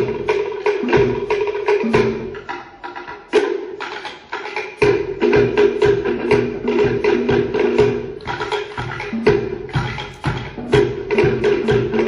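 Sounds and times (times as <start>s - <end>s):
bass drum thumps: 0.0s - 2.6s, 4.8s - 12.0s
slit log drums beaten fast: 0.0s - 12.0s.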